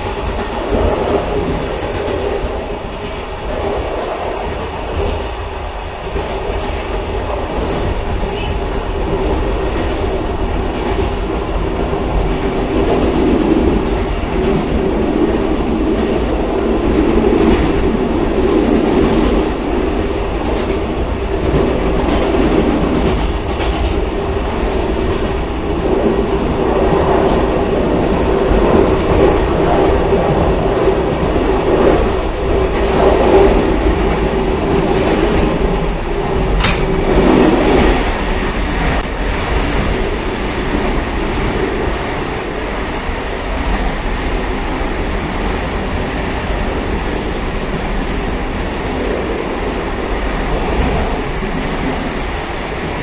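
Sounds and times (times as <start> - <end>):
railcar rumbling on track: 0.0 - 53.0.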